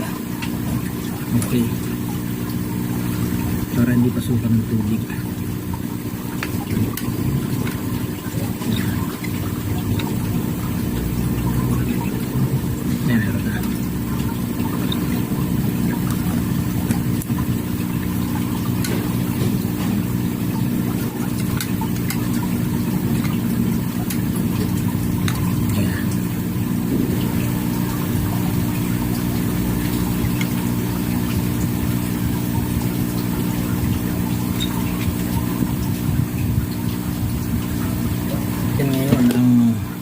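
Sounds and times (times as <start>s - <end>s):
motor humming: 0.0s - 40.0s.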